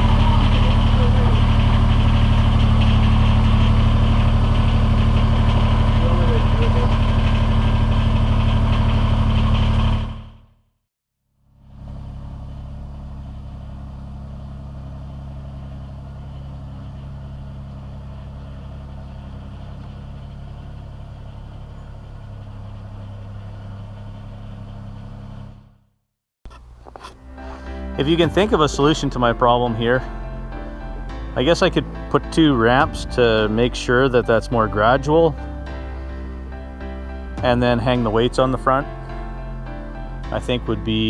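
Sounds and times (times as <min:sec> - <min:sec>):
tractor diesel engine running: 0:00.0 - 0:10.6, 0:11.4 - 0:41.0.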